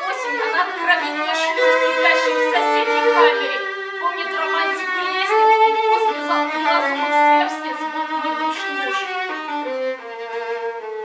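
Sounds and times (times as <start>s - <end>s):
violin playing held notes: 0.0s - 11.0s.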